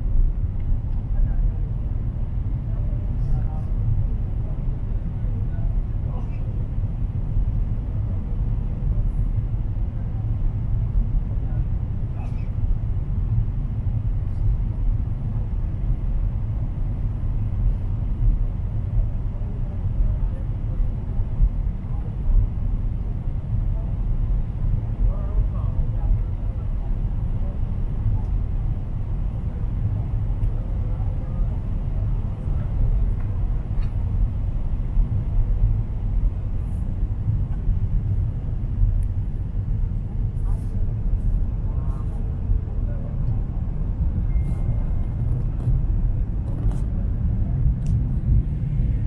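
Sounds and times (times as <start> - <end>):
airplane cabin rumble: 0.0 - 49.0
faint high steady whine: 0.0 - 49.0.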